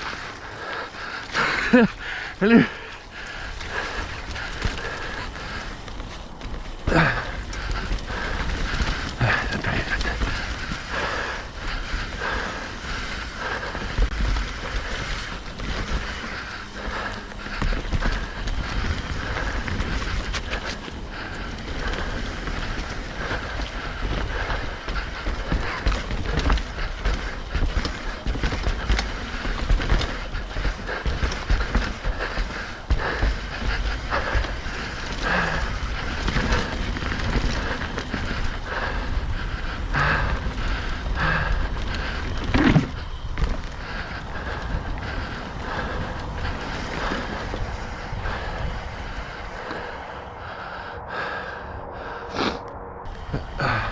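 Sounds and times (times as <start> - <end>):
wind: 0.0 - 53.9
bike frame rattling and knocking: 1.2 - 49.9
tyre rumble on dirt: 1.4 - 50.0.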